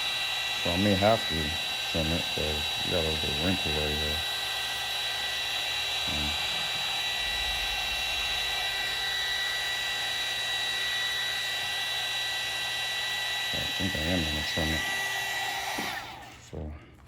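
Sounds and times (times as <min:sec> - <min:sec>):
heat gun blowing air: 0:00.0 - 0:16.4.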